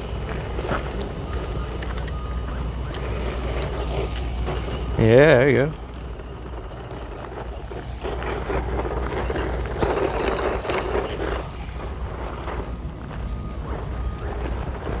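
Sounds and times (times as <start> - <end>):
rc truck motor running: 0.0 - 15.0.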